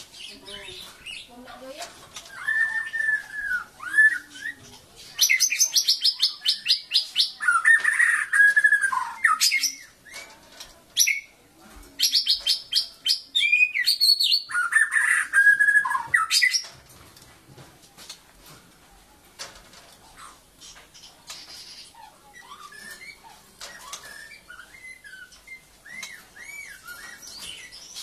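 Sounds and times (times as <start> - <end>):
bird singing: 0.0 - 16.8, 20.2 - 28.0.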